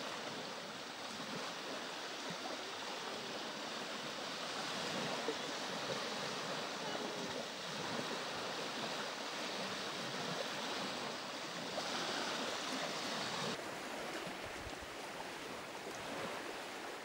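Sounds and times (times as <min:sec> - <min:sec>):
small waves washing on sandy beach: 0:00.0 - 0:17.0.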